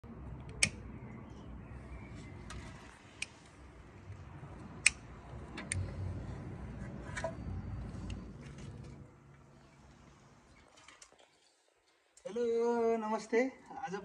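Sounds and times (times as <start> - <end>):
low rumble of background noise: 0.0 - 14.0.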